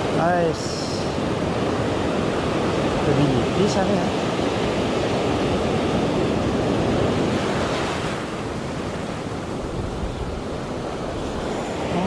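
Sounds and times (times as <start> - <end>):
sea waves washing ashore: 0.0 - 12.0
wind on microphone: 0.8 - 12.0.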